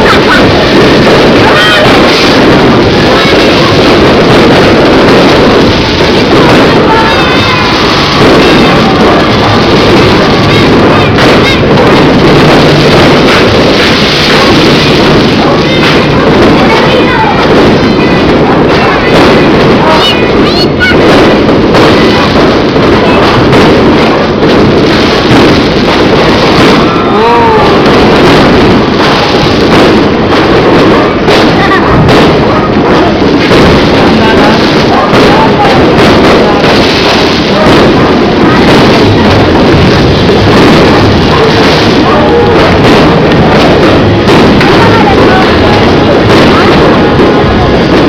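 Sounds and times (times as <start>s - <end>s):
fireworks exploding: 0.0s - 48.0s
sharp fireworks cracks: 0.0s - 48.0s.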